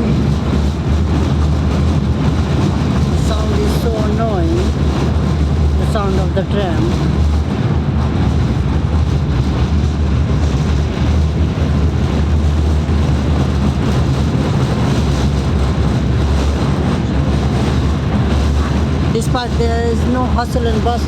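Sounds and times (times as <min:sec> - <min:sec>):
tram droning and rumbling: 0:00.0 - 0:21.0.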